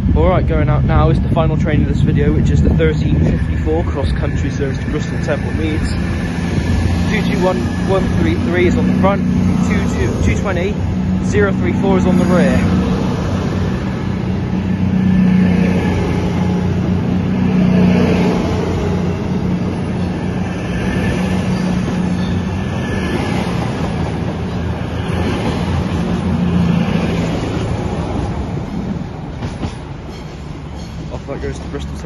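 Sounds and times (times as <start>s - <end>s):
diesel train engines droning: 0.0s - 32.0s.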